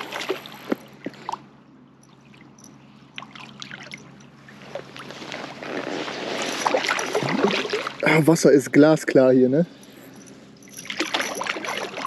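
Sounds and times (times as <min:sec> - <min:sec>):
water splashing and sloshing: 0:00.0 - 0:08.5, 0:09.8 - 0:12.0.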